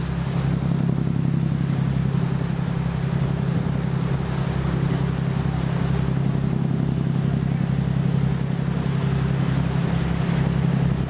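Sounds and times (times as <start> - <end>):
boat engine droning: 0.0 - 11.0
water noise: 0.0 - 11.0
wind: 0.0 - 11.0.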